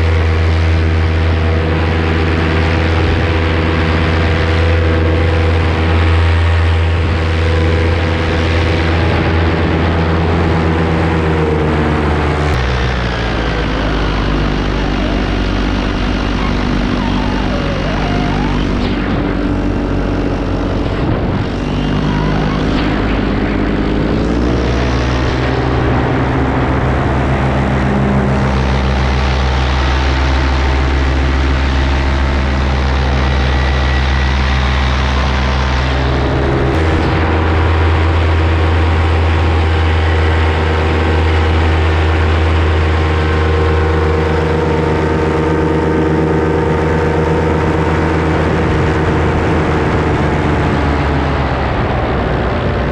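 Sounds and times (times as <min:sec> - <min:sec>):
paramotor engine and propeller: 0:00.0 - 0:52.9.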